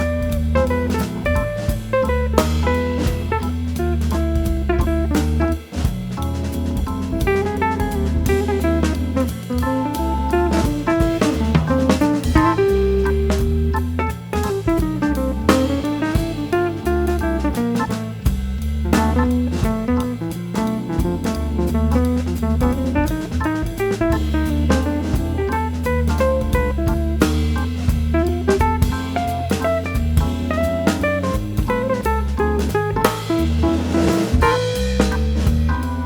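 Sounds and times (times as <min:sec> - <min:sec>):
instrumental band music: 0:00.0 - 0:36.0.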